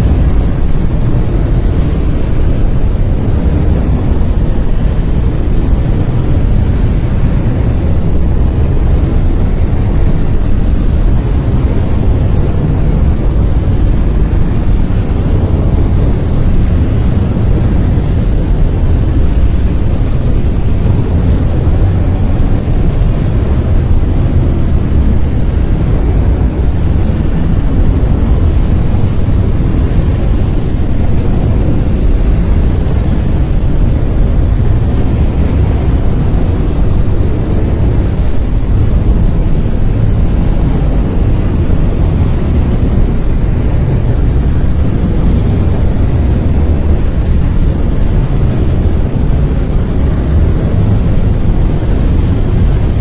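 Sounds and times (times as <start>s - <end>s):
deep rumbling hiss: 0.0s - 53.0s.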